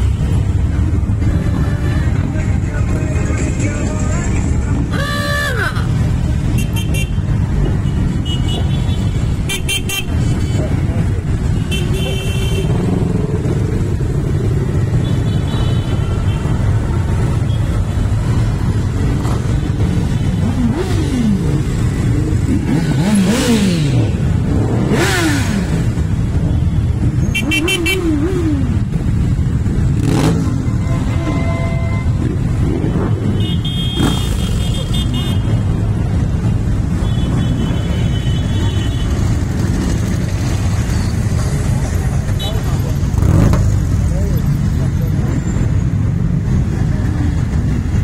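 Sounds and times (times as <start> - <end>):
motorcycle engines revving: 0.0 - 48.0.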